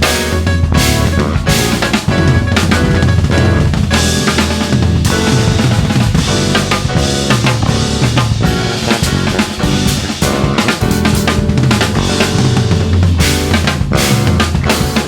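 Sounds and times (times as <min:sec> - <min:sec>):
bass line: 0:00.0 - 0:15.0
drum kit beat: 0:00.0 - 0:15.0
sustained melodic instruments: 0:00.0 - 0:15.0.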